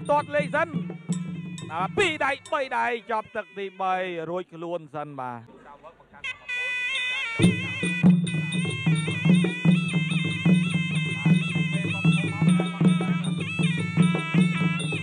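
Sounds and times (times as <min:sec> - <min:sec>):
drums beating steadily: 0:00.0 - 0:03.7, 0:06.5 - 0:15.0
shrill reed pipe melody: 0:00.0 - 0:04.4, 0:06.2 - 0:15.0.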